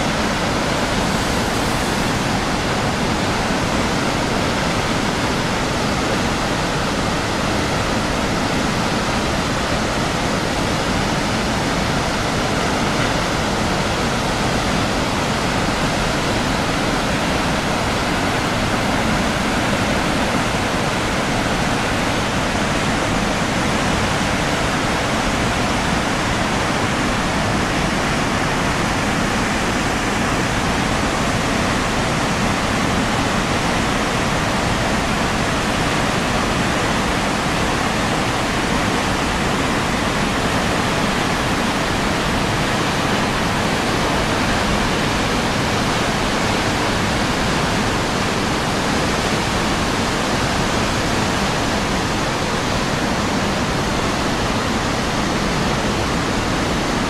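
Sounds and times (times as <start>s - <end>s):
waterfall and rapids rushing: 0.0s - 57.0s.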